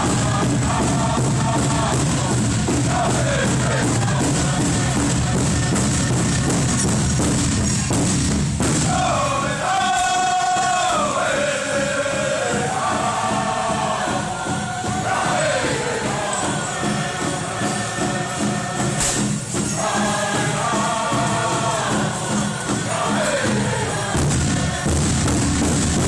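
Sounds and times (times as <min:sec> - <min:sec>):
high-pitched group singing: 0:00.0 - 0:07.0, 0:08.8 - 0:26.0
big drum steady beat: 0:00.0 - 0:26.0.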